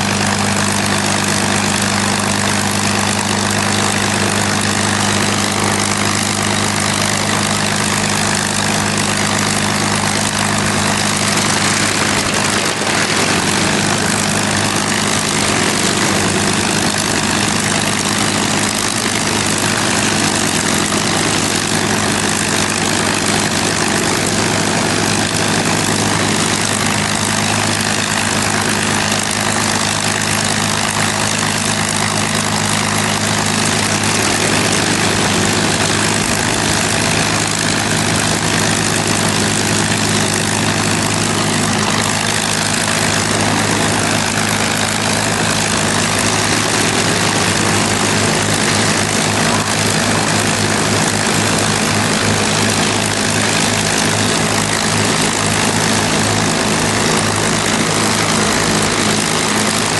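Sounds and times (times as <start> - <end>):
propeller aircraft engines idling: 0.0 - 59.9.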